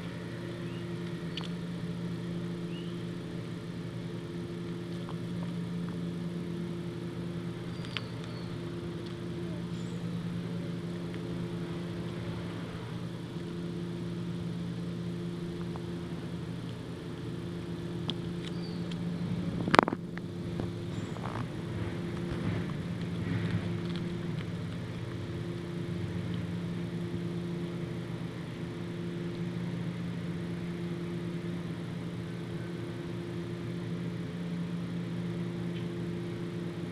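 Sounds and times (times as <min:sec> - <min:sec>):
motor humming: 0:00.0 - 0:36.9.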